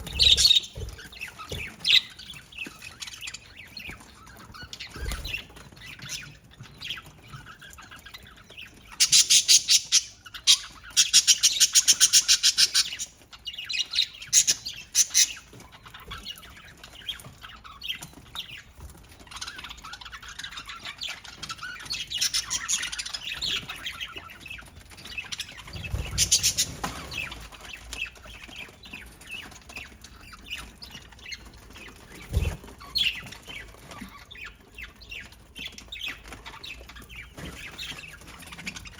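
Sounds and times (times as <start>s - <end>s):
budgerigars chirping: 0.0s - 18.7s, 19.3s - 38.9s.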